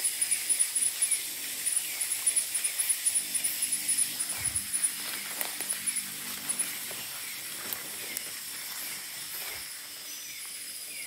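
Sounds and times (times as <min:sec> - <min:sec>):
insect chirp: 0:00.0 - 0:11.0
insects buzzing: 0:00.0 - 0:11.0.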